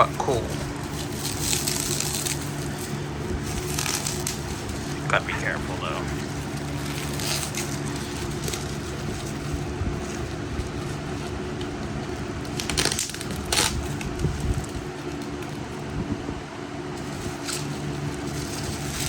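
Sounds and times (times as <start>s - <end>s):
packaging crinkling and rustling: 0.0s - 16.0s, 16.9s - 19.0s
loud packaging crackles: 0.0s - 16.1s, 16.8s - 19.0s.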